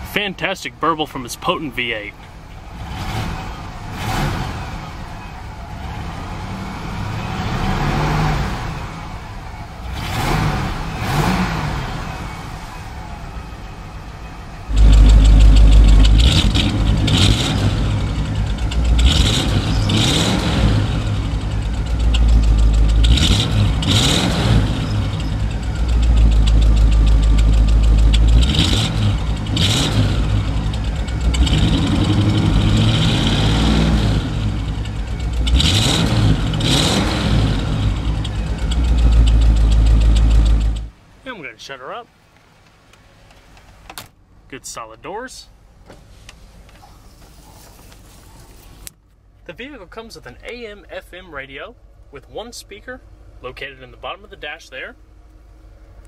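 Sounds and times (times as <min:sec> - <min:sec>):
car engine idling and revving: 0:00.0 - 0:41.2, 0:51.7 - 0:56.0.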